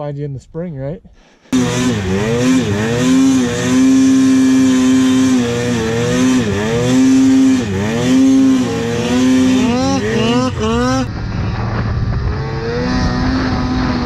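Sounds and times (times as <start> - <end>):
snowmobile engine revving: 1.5 - 14.0.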